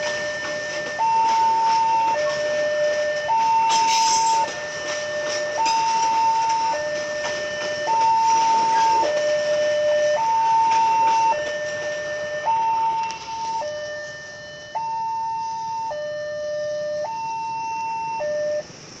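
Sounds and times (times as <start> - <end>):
level crossing two-tone alarm: 0.0 - 18.7.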